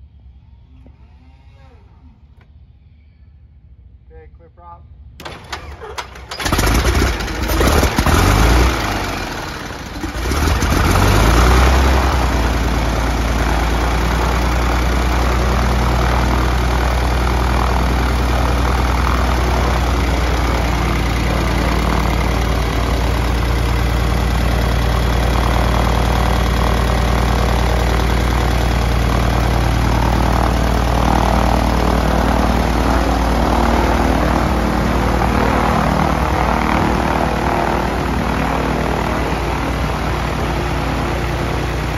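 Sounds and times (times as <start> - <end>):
aircraft engine starting and idling: 5.0 - 41.9.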